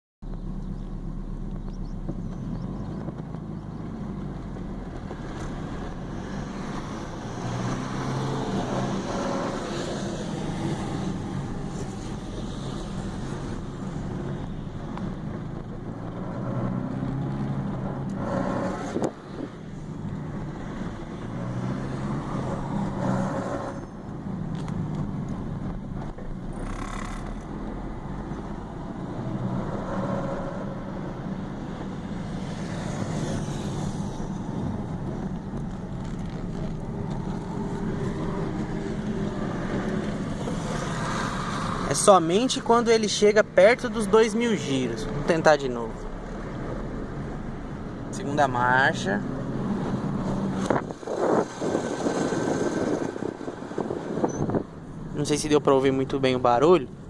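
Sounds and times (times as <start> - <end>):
car engine revving while driving: 0.6 - 42.8, 48.8 - 55.2.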